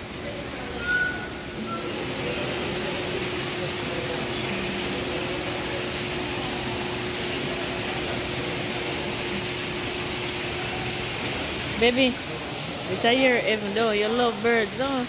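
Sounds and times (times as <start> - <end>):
faint constant hum: 0.0 - 15.0
waterfall rushing: 0.0 - 15.0.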